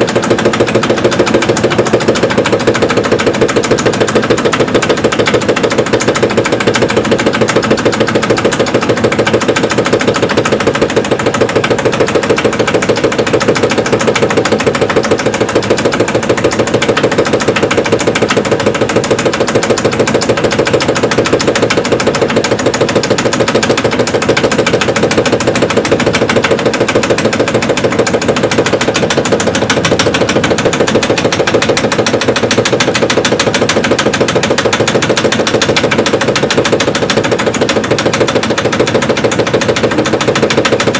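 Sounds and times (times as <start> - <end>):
rapid knocking of drum bearing: 0.0 - 40.9
washing machine drum spinning: 0.0 - 40.9.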